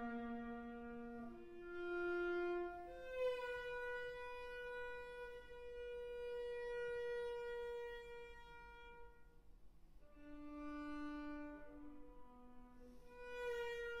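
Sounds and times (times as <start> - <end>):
violin long bowed notes: 0.0 - 14.0.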